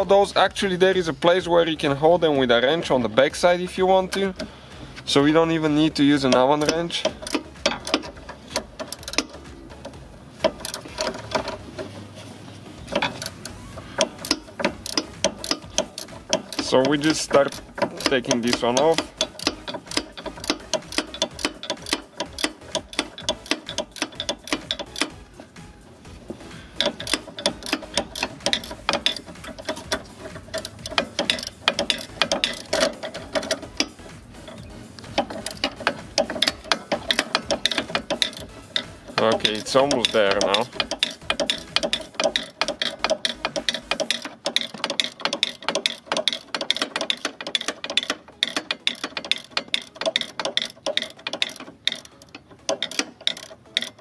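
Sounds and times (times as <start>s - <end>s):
steel wrenches clicking on metal: 0.0s - 54.0s.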